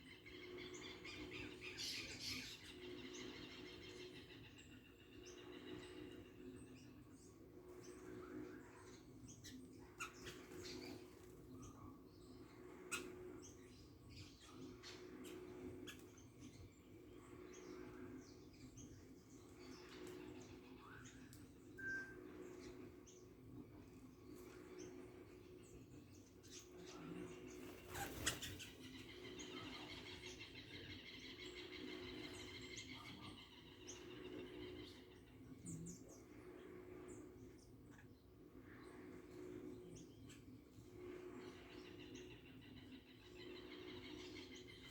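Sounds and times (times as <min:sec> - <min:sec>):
faint low hum: 0:00.0 - 0:44.9
small birds chirping: 0:00.0 - 0:44.9.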